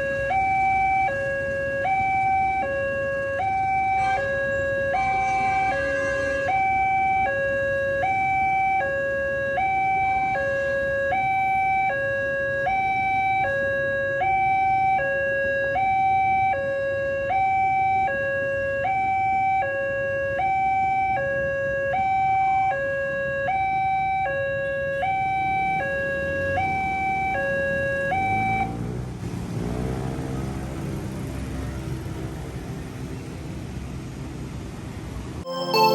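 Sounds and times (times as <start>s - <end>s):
two-tone crossing warning siren: 0.0s - 28.8s.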